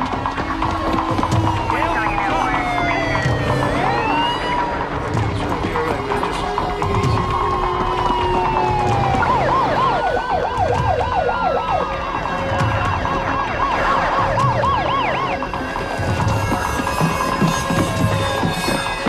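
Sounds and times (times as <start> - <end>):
police siren wailing and yelping: 0.0 - 19.0
second siren wailing: 0.0 - 19.0.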